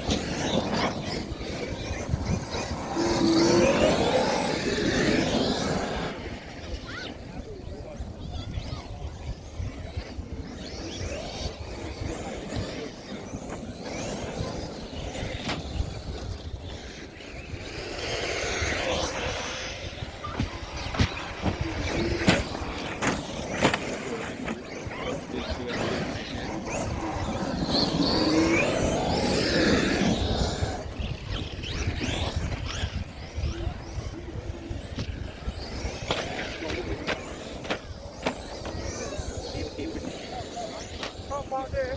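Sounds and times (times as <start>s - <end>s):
electric toy car motor whining: 0.0s - 41.9s.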